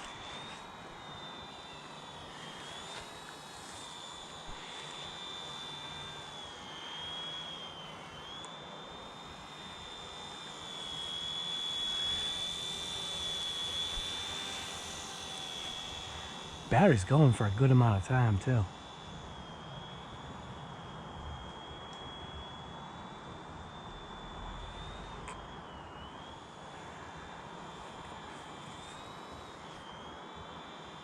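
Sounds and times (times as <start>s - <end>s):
rc helicopter motor whine: 0.0s - 31.0s.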